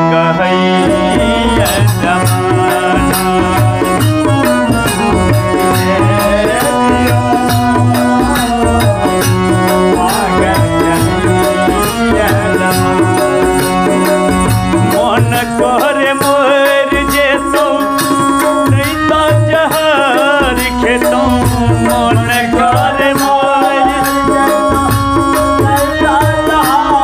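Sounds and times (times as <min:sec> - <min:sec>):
dholak drum rhythm: 0:00.0 - 0:27.0
harmonium melody: 0:00.0 - 0:27.0.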